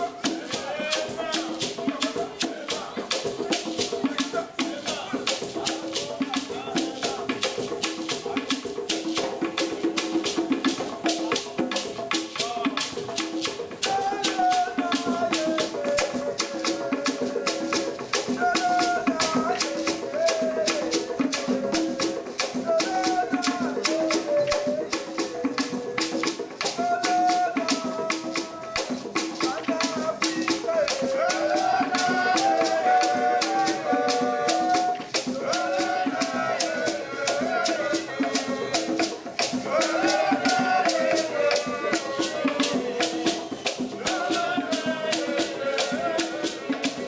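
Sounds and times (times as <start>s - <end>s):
hand drums and shaker rhythm: 0.0s - 47.0s.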